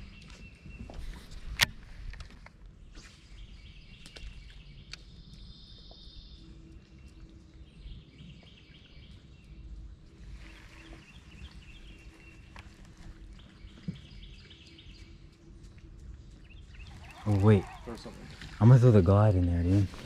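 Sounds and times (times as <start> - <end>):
birds singing and chirping: 2.7 - 20.0.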